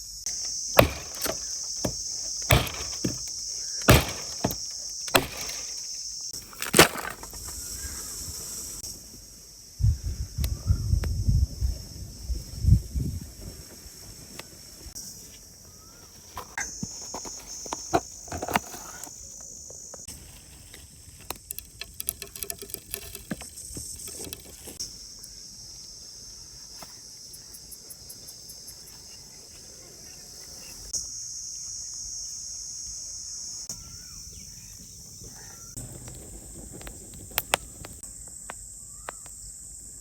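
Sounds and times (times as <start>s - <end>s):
insect chorus buzzing: 0.0s - 40.0s.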